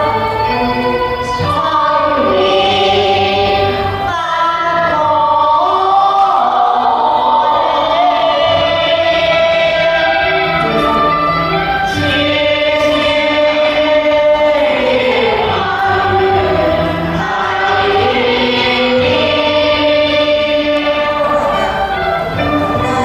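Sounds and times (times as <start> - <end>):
choir holding long notes: 0.0 - 23.0.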